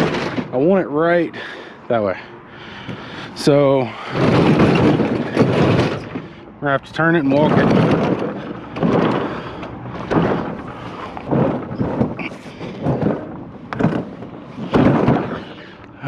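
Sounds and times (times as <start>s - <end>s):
heavy metal object scraping thuds: 0.0s - 16.0s.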